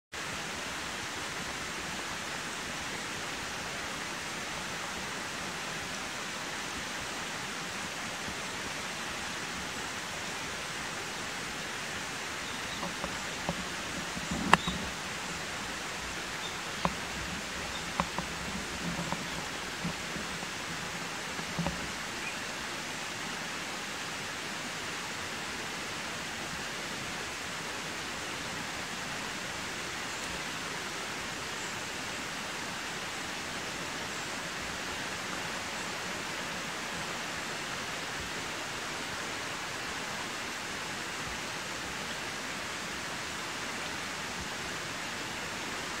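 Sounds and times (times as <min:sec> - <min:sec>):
steady rushing hiss: 0:00.1 - 0:46.0.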